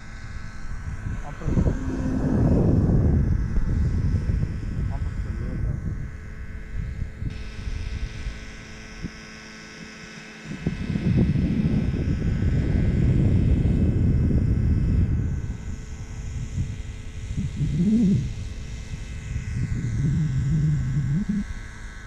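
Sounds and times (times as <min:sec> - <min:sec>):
faint steady hum: 0:00.0 - 0:22.0
wind buffeting microphone: 0:00.1 - 0:09.2, 0:10.4 - 0:22.0.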